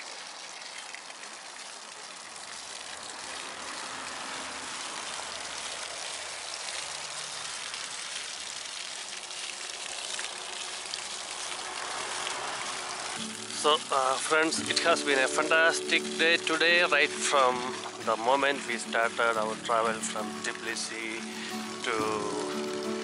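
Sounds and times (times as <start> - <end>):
water splashing onto stones: 0.0 - 23.0.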